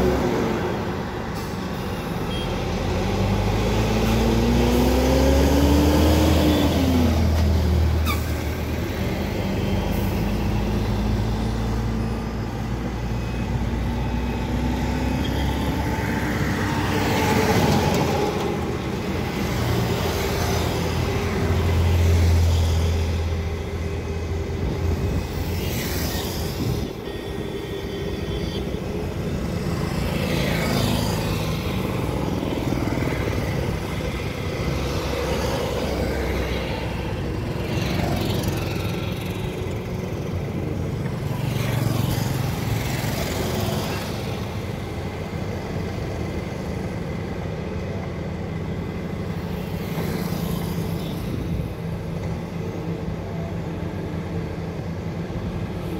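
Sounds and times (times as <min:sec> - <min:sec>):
cars and motorcycles passing: 0:00.0 - 0:01.3, 0:02.2 - 0:55.9
diesel truck engine drone: 0:00.0 - 0:55.9.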